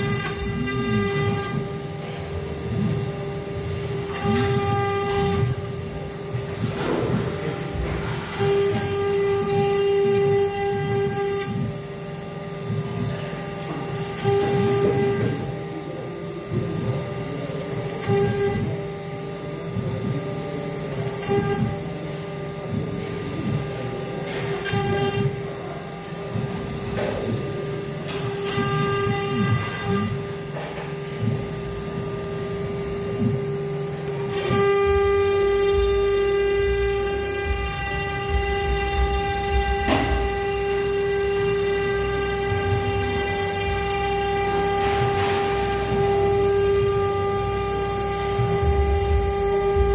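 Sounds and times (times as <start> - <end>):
axis motors whirring: 0.0 - 49.9
router spindle high whine: 0.0 - 49.9.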